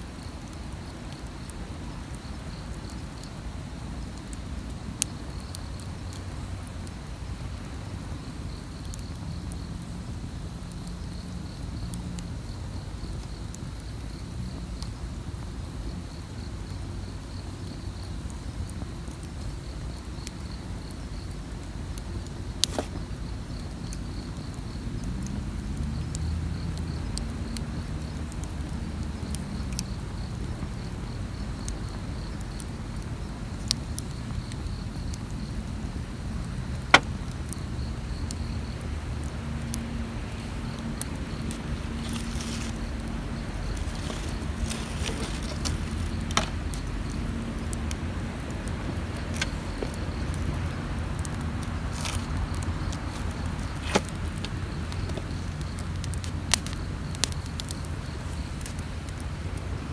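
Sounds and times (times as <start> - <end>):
campfire crackling and popping: 0.0 - 59.9
insects chirping: 0.0 - 59.9.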